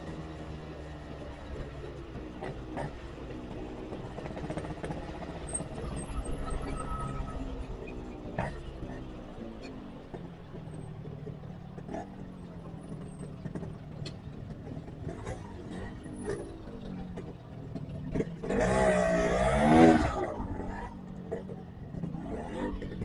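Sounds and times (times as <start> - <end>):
motorcycle engine running: 0.0 - 6.9, 7.8 - 23.0.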